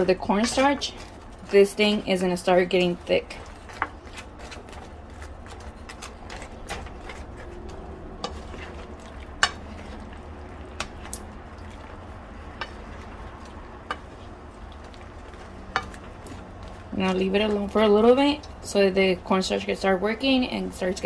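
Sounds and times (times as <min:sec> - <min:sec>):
utensil scraping frying pan: 0:00.0 - 0:18.8
steady low hum: 0:00.0 - 0:21.0.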